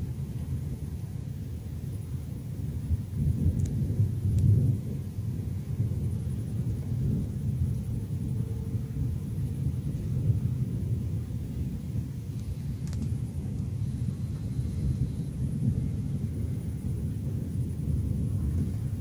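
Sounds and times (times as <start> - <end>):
thunder rumbling: 0.0 - 19.0.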